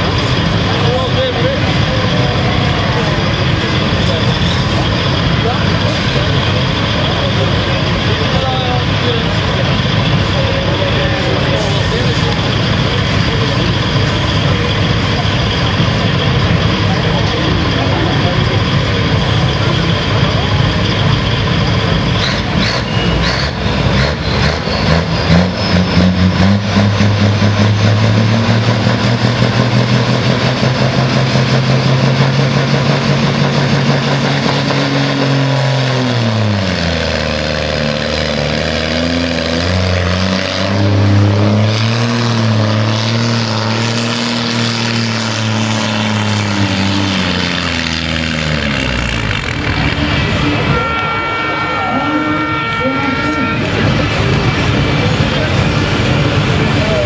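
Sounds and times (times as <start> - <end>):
diesel truck engine labouring: 0.0 - 57.0.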